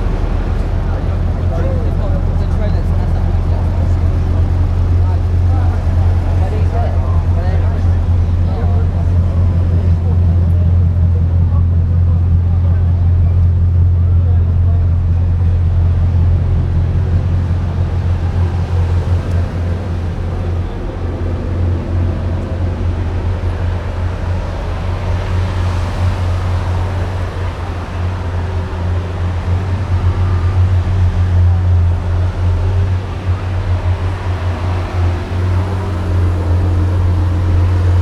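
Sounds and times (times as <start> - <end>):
car driving with road noise: 0.0 - 38.0
rush of noise: 0.0 - 38.0.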